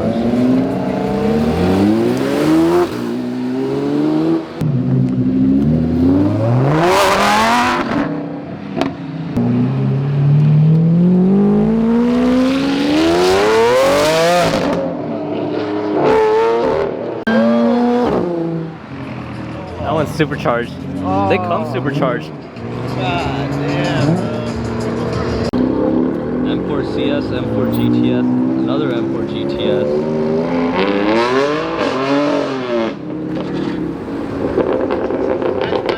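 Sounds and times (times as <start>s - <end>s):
car engines revving and accelerating: 0.0s - 35.9s.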